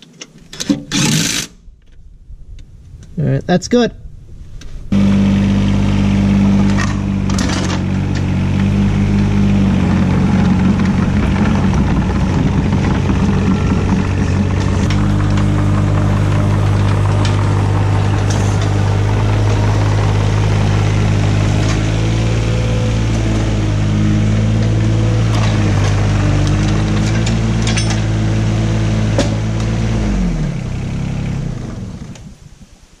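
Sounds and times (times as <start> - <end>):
diesel engine running: 4.9 - 32.7.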